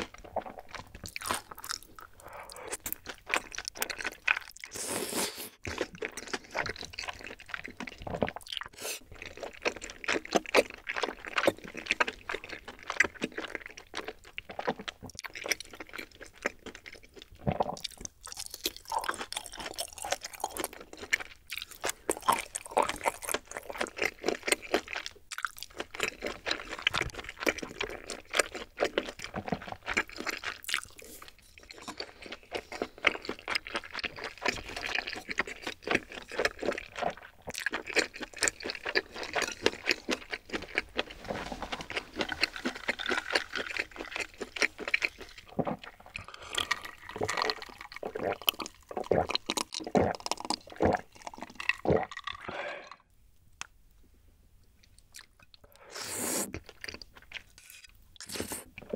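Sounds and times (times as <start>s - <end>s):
person slurping and chewing: 0.0s - 53.0s, 55.0s - 58.9s.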